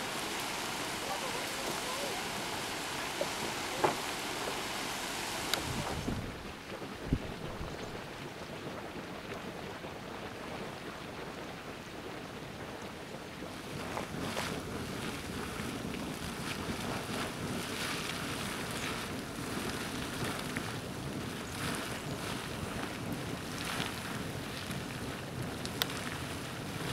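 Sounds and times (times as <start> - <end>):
geyser spraying water: 0.0 - 9.6, 13.4 - 26.9
wind and steam rushing: 0.0 - 26.9.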